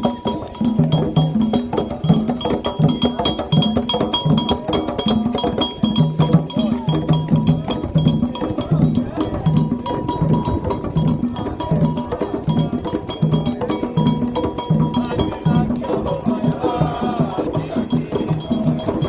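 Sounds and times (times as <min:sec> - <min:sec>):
hand drums playing a dense rhythm: 0:00.0 - 0:19.0
ringing bell pattern: 0:02.7 - 0:19.0.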